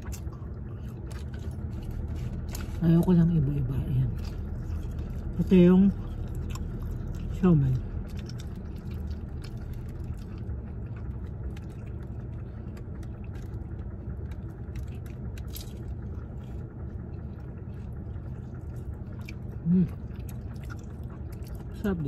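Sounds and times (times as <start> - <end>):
person chewing food: 0.0 - 3.2, 3.8 - 22.0
steady low hum: 0.0 - 22.0.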